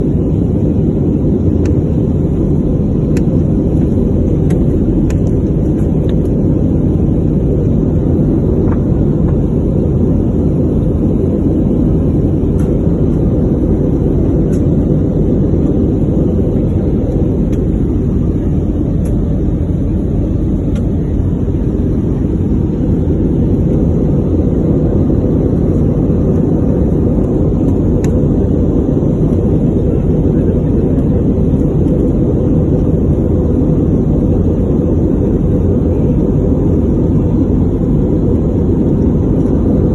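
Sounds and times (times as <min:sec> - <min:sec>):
airliner engines roaring in cabin: 0:00.0 - 0:39.9.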